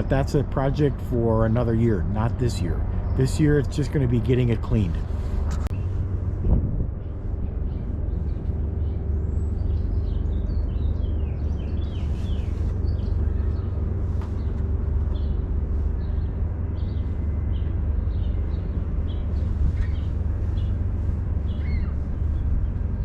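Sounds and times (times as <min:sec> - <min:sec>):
small birds chirping: 0:00.0 - 0:06.0, 0:07.0 - 0:23.0
faint constant hum: 0:00.0 - 0:23.0
steady low rumble: 0:00.0 - 0:23.0.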